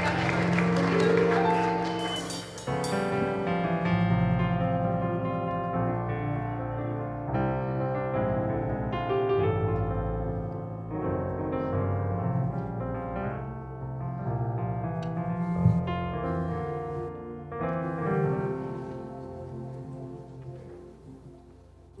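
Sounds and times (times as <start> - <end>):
keyboard playing slow chords: 0.0 - 22.0.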